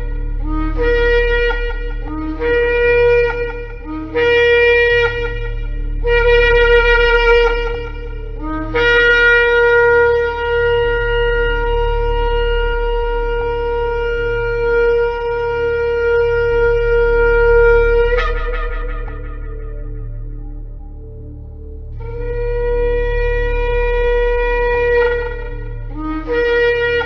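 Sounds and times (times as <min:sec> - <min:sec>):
shofar blasts: 0:00.0 - 0:21.3, 0:22.0 - 0:27.0.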